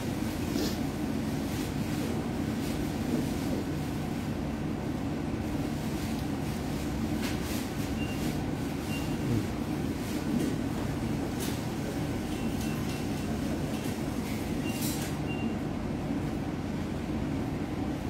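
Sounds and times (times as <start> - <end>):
low background rumble and hum: 0.0 - 18.0.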